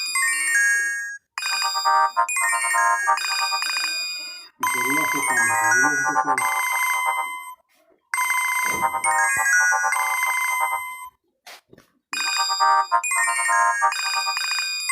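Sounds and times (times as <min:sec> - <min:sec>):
electronic phone ringtone melody: 0:00.0 - 0:07.6, 0:08.2 - 0:11.2, 0:12.2 - 0:14.9.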